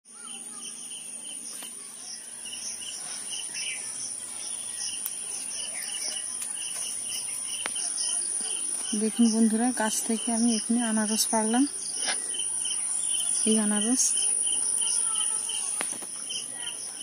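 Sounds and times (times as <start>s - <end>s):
insects droning and chirping: 0.1s - 17.0s.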